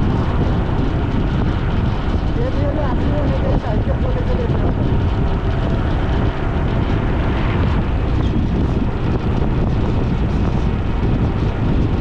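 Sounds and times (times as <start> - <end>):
road and vehicle noise: 0.0 - 12.0
wind buffeting microphone: 0.0 - 12.0.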